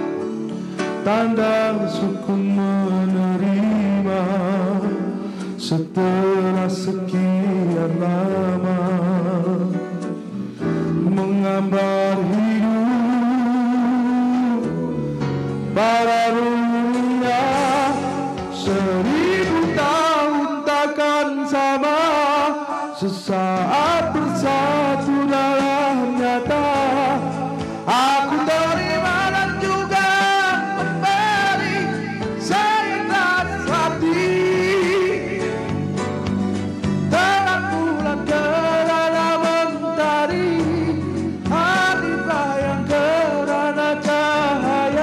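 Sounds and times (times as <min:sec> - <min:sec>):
instrumental backing track: 0:00.0 - 0:45.0
man singing into microphone: 0:00.0 - 0:45.0
musical accompaniment: 0:00.0 - 0:45.0.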